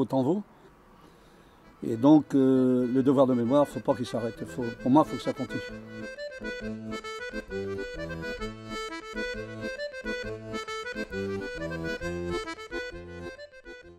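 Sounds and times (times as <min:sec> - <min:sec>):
accordion music: 0:01.0 - 0:13.9.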